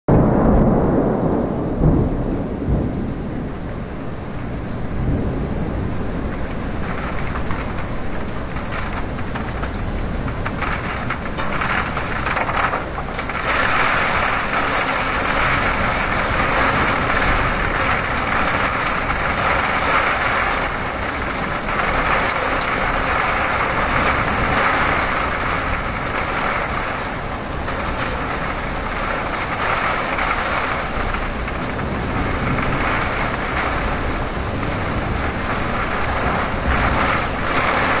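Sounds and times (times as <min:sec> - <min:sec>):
rain falling: 0:00.1 - 0:38.0
thunder rumbling: 0:00.1 - 0:38.0.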